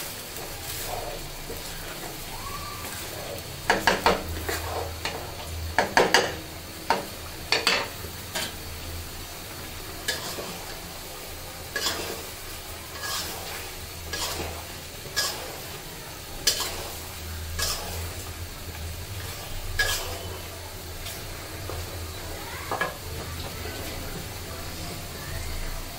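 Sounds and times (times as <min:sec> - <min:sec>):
light sizzle: 0:00.0 - 0:25.9
wooden spoon scraping a pan: 0:00.3 - 0:08.6, 0:10.0 - 0:24.2.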